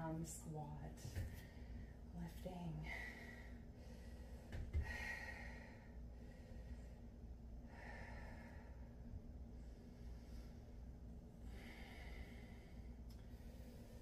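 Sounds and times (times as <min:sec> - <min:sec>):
woman breathing: 0:01.2 - 0:02.1, 0:02.7 - 0:14.0.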